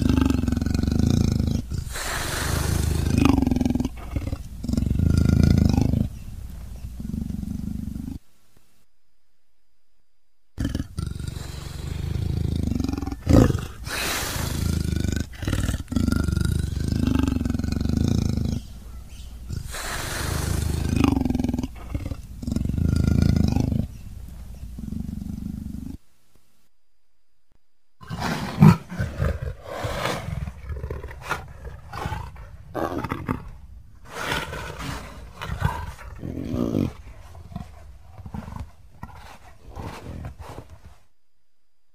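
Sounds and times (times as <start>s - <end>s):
leopard calling: 0.0s - 8.2s, 10.6s - 26.0s, 28.0s - 40.9s.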